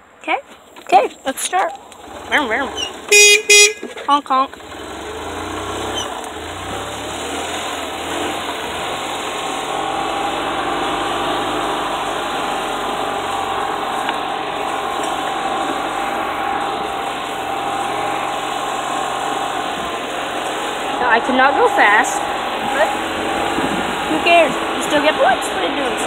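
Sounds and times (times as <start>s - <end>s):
golf cart motor whining: 1.5s - 26.0s.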